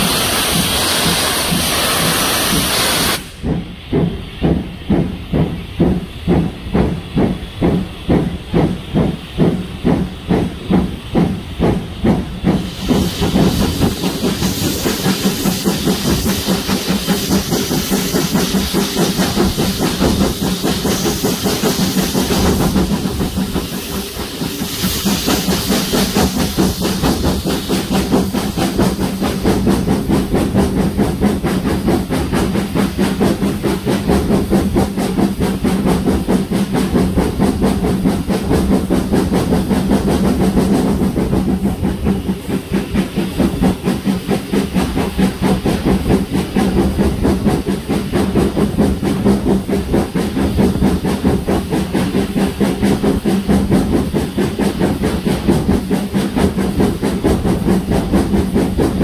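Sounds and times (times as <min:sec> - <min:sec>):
hiss of steam: 0:00.0 - 0:59.0
steam locomotive exhaust beating: 0:00.0 - 0:59.0
train running noise: 0:00.0 - 0:59.0.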